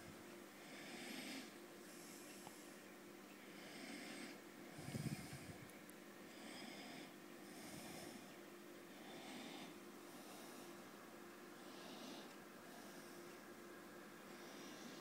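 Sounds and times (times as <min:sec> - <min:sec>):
faint low hum: 0:00.0 - 0:15.0
soft breathing: 0:00.6 - 0:13.6, 0:14.2 - 0:15.0.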